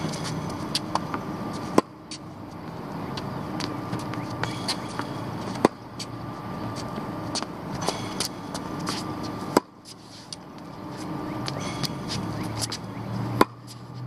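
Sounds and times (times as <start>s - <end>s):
road traffic hum: 0.0s - 14.0s.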